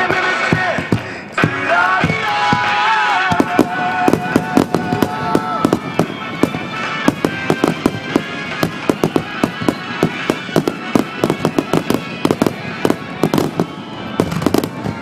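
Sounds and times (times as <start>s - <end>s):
fireworks bangs: 0.0s - 15.0s
music over loudspeakers: 0.0s - 15.0s.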